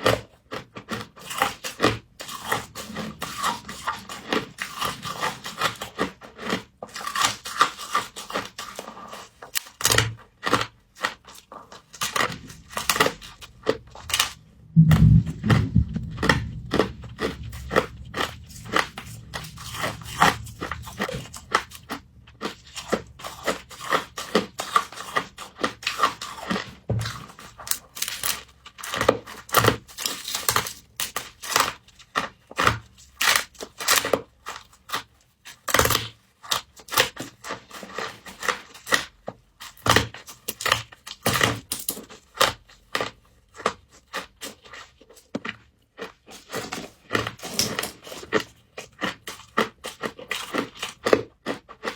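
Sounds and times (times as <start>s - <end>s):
frost crunching when chewed: 0.0s - 51.9s.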